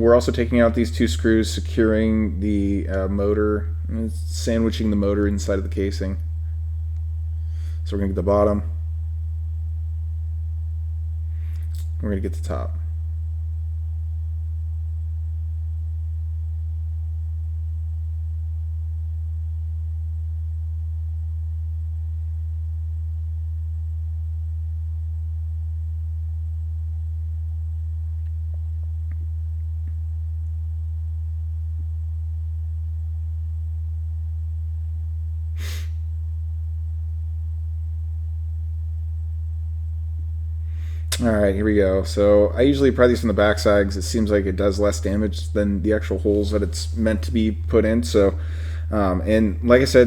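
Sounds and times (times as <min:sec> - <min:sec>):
loud steady low hum: 0:00.0 - 0:50.0.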